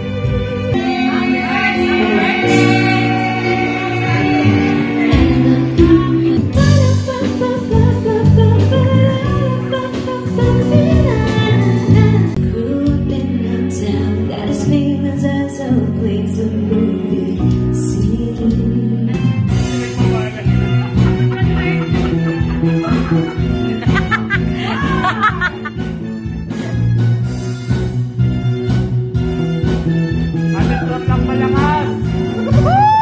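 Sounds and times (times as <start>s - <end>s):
music with singing: 0.0s - 33.0s.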